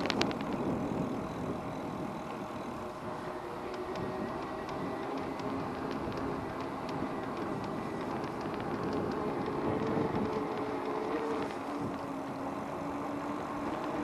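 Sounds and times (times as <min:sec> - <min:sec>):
e-bike motor hum: 0:00.0 - 0:14.0
traffic and road noise: 0:00.0 - 0:14.0.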